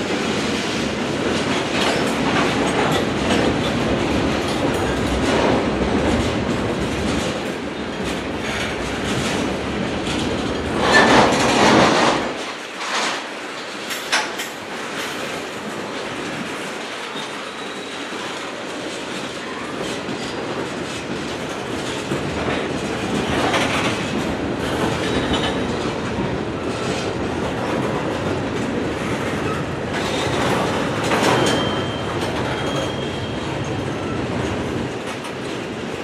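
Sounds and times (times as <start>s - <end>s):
train wheels clattering on rails: 0.0s - 36.0s.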